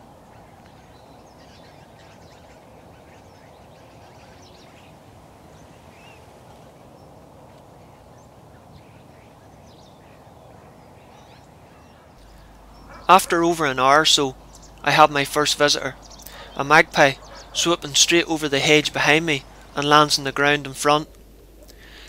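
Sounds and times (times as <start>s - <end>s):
faint wild bird calls: 0.0s - 22.0s
steady low background noise: 0.0s - 22.0s.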